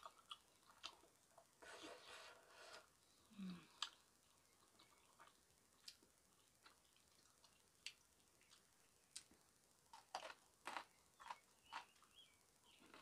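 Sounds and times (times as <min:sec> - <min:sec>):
chewing greens: 0:00.0 - 0:02.1, 0:03.6 - 0:13.0.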